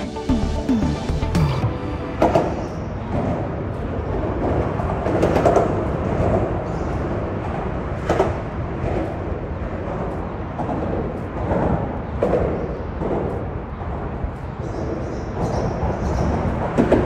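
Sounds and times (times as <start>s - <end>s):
highway traffic rumble: 1.4s - 17.0s.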